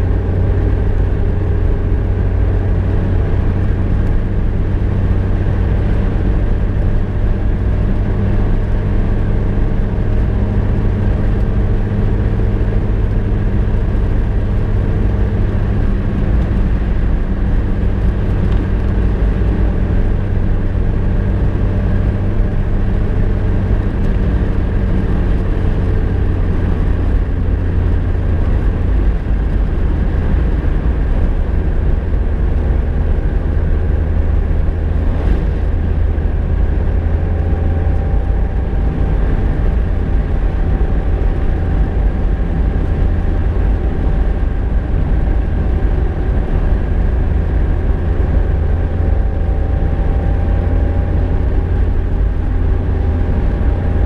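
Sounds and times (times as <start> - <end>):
car engine drone: 0.0 - 54.0
road and tyre rumble: 0.0 - 54.0.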